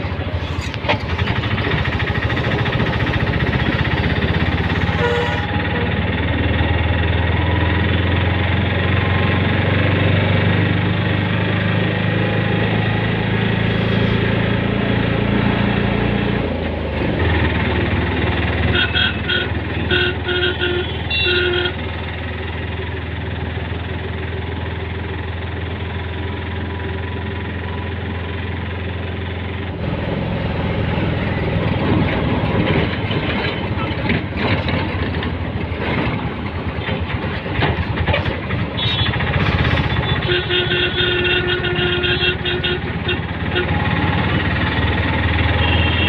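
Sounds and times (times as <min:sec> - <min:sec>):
auto-rickshaw engine running: 0:00.0 - 0:46.0
road noise: 0:00.0 - 0:46.0.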